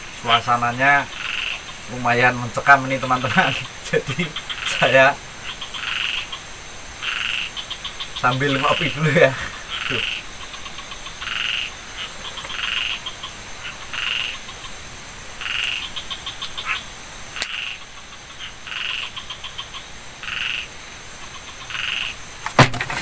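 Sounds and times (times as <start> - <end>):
frogs croaking: 0.0 - 23.0.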